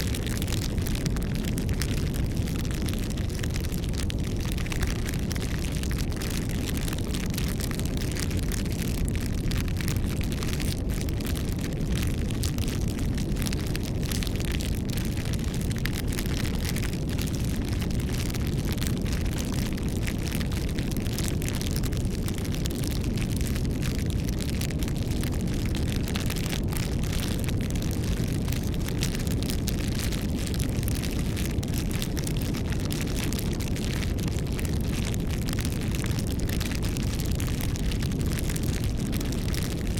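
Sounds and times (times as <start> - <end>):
campfire flames rumbling: 0.0 - 39.9
wood crackling and popping: 0.0 - 39.9.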